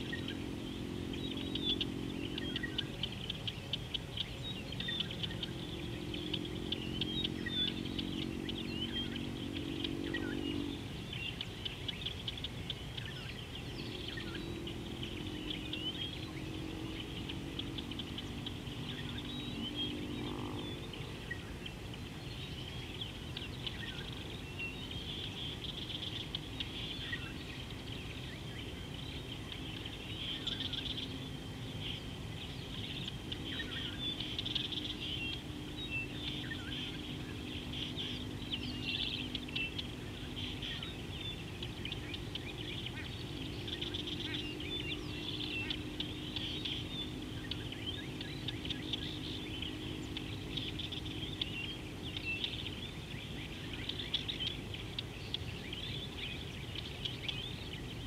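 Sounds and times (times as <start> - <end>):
birds chirping: 0.0 - 58.0
faint low drone: 0.0 - 58.0.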